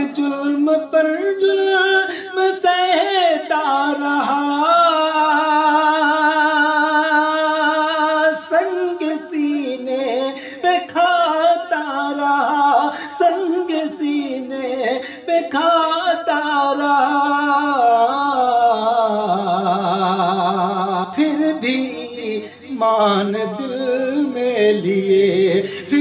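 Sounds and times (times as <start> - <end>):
man singing a cappella: 0.0 - 26.0.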